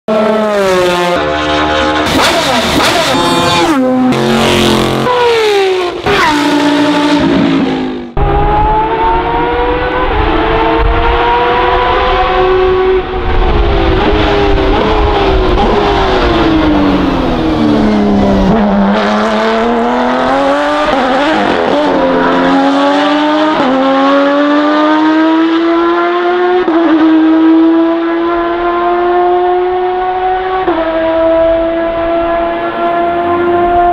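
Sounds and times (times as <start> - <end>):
race car engine passing: 0.1 - 33.9.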